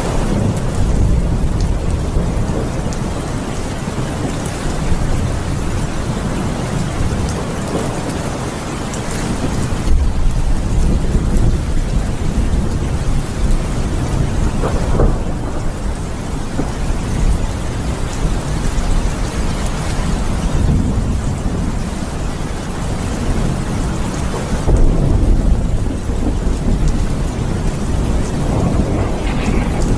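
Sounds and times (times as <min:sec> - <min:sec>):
steady rain: 0:00.0 - 0:29.9
thunder rumbling: 0:00.0 - 0:29.9.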